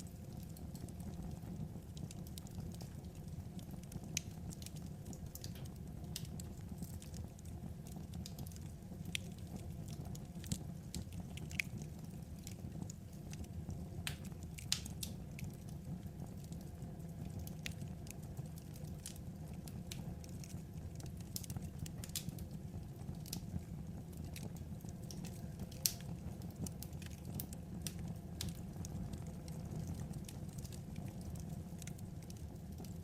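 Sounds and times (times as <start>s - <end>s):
fire rumbling: 0.0s - 33.0s
wood fire pops and snaps: 0.4s - 33.0s.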